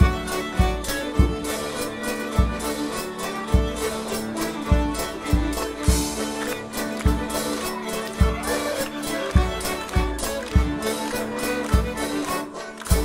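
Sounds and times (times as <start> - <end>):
country dance band playing: 0.0 - 13.0.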